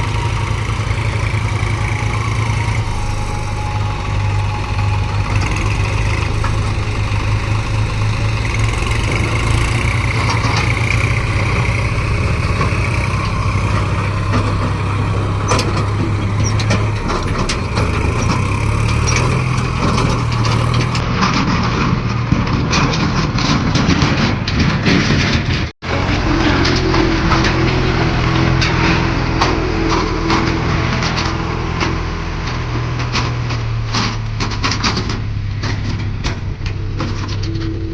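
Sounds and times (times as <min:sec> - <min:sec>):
diesel engine drone: 0:00.0 - 0:37.9
knocks and clatter: 0:00.0 - 0:37.9.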